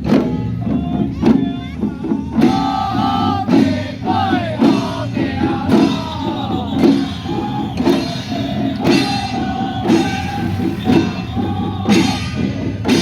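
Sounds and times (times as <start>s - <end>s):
steady drum beat: 0.0s - 13.0s
song with singing: 0.3s - 13.0s.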